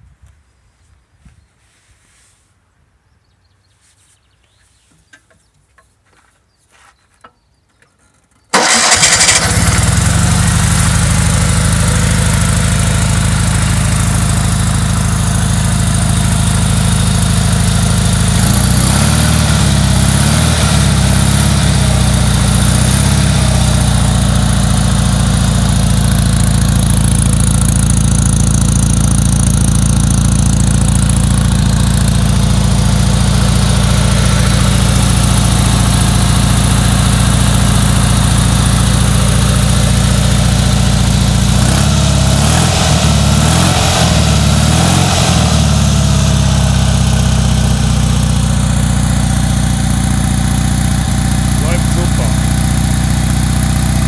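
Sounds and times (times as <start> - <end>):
car engine idling: 8.5 - 54.0.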